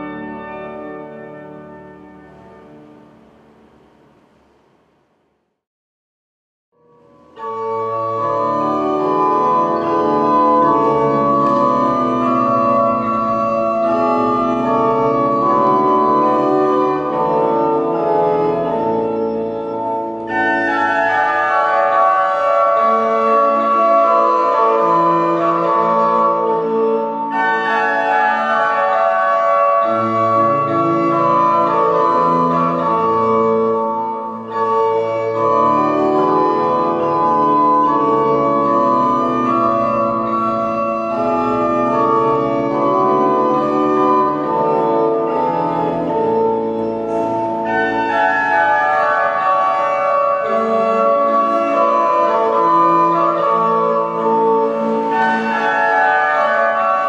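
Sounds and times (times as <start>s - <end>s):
pipe organ chords: 0.0s - 4.7s, 6.8s - 57.0s.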